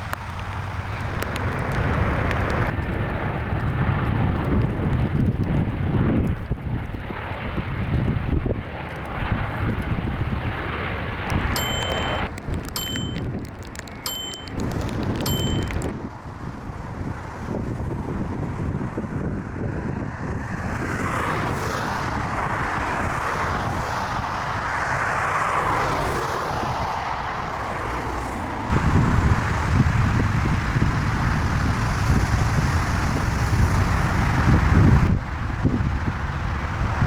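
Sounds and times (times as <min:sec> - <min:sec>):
aircraft engines passing: 0:00.0 - 0:11.6, 0:15.8 - 0:37.0
wind buffeting microphone: 0:00.0 - 0:37.0.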